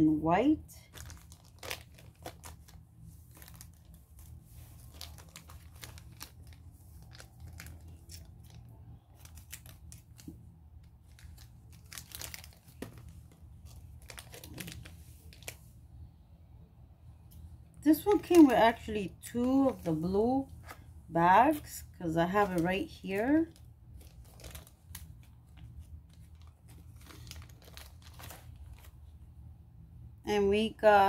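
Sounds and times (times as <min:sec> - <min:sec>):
packaging crinkling and tearing: 0:00.8 - 0:15.7, 0:17.9 - 0:20.9, 0:21.5 - 0:29.1.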